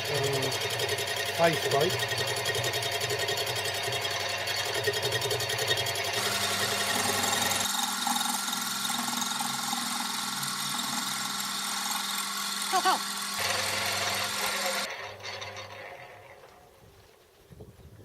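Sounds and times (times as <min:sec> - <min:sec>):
metal lathe cutting: 0:00.0 - 0:16.4.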